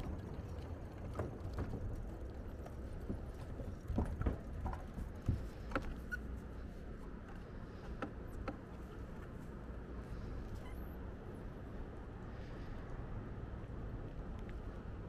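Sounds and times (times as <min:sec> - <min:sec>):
wind and tyre rumble: 0:00.0 - 0:15.0.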